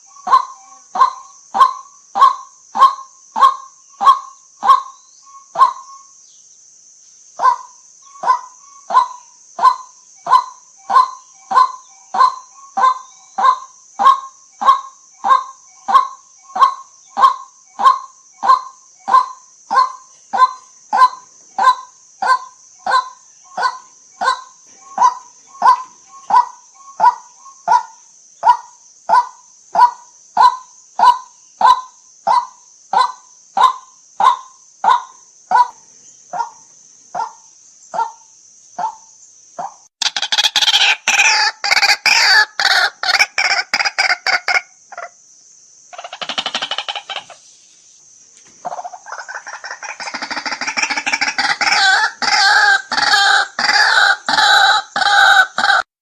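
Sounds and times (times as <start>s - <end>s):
waterhen calling kwak: 0.0s - 5.9s, 7.4s - 36.6s, 39.6s - 45.1s, 45.9s - 47.5s, 48.6s - 55.9s
steady high hiss: 0.0s - 54.4s.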